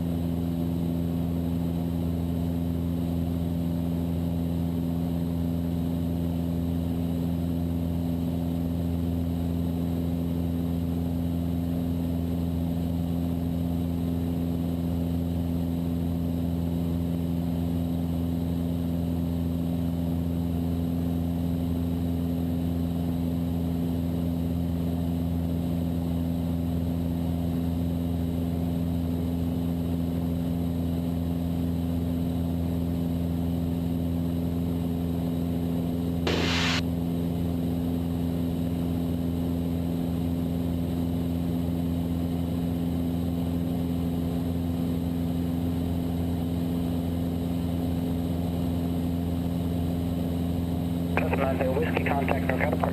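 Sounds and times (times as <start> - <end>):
airplane engine and propeller droning: 0.0 - 36.8, 37.9 - 52.9.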